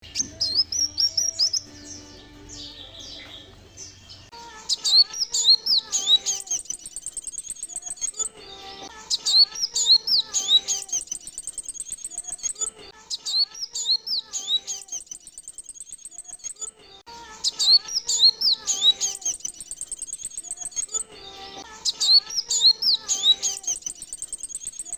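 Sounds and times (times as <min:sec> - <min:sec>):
sunbird chirps and twitters: 0:00.0 - 0:16.7, 0:17.4 - 0:21.1, 0:21.7 - 0:24.9.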